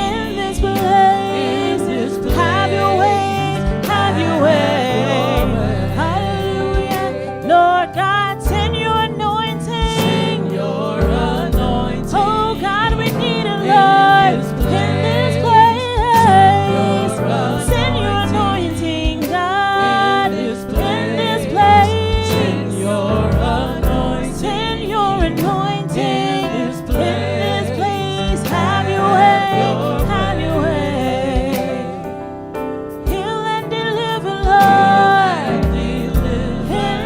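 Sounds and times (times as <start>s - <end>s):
gospel singing with band: 0.0s - 37.0s.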